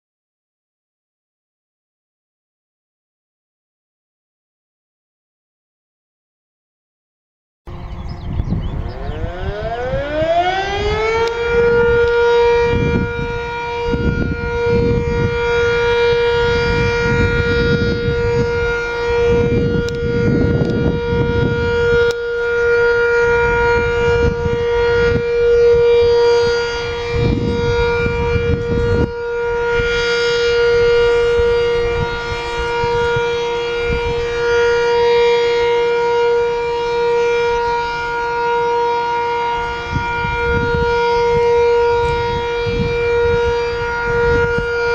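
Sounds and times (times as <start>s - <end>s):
warning siren: 7.7s - 44.9s.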